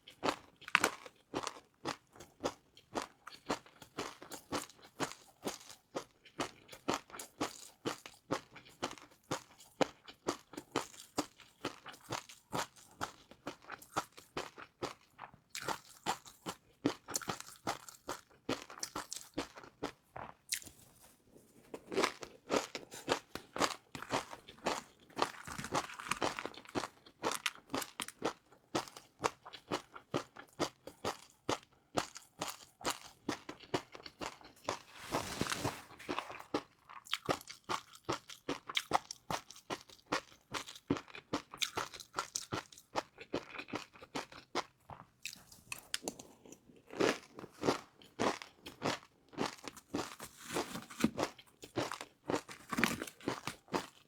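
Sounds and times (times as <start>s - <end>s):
crunchy food being chewed: 0.0s - 54.0s.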